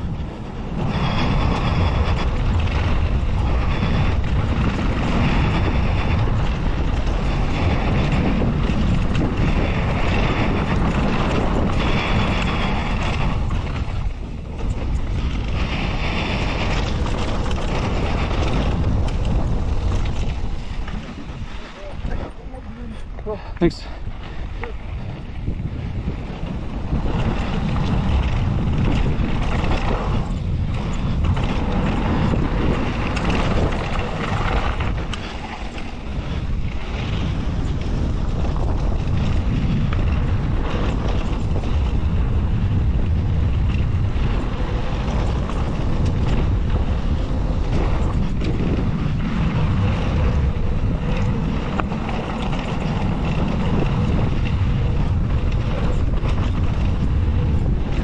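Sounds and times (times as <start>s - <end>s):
bike rattling over bumps: 0.0s - 58.0s
tyres rolling over dirt: 0.0s - 58.0s
wind buffeting microphone: 0.0s - 58.0s.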